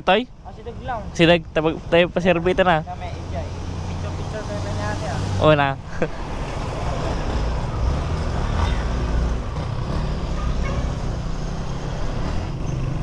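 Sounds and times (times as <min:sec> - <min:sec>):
road and wind noise: 0:00.0 - 0:13.0
surrounding traffic: 0:00.0 - 0:13.0.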